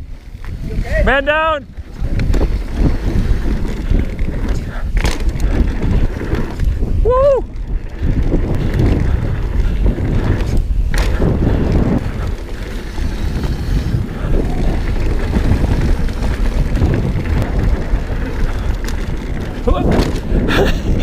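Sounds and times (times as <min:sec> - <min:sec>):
bike tyres rumbling on rough ground: 0:00.0 - 0:21.0
wind buffeting microphone: 0:00.0 - 0:21.0.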